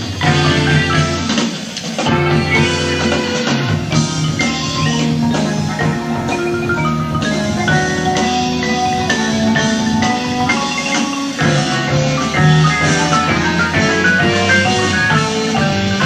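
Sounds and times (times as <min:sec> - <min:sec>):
bass guitar: 0:00.0 - 0:01.4, 0:02.0 - 0:16.0
drums: 0:00.0 - 0:16.0
marimba runs: 0:00.0 - 0:16.0.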